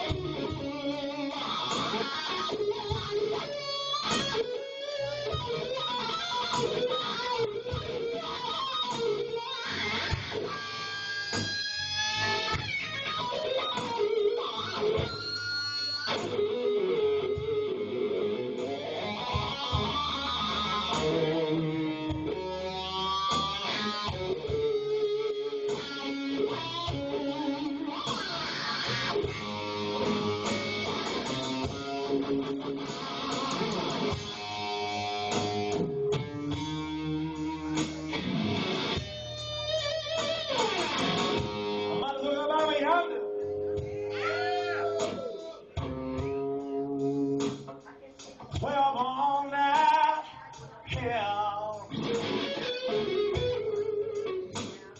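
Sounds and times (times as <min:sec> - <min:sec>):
bass: 0:00.0 - 0:54.9
drums: 0:00.0 - 0:54.9
electric guitar solo: 0:00.0 - 0:54.9.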